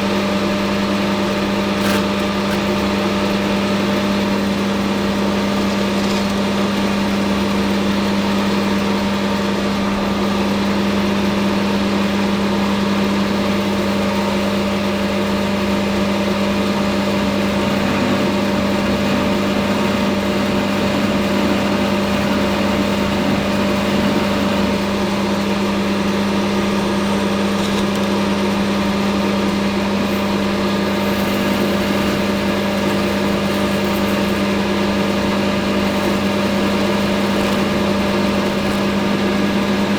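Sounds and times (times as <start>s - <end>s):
lathe motor humming: 0.3s - 39.9s.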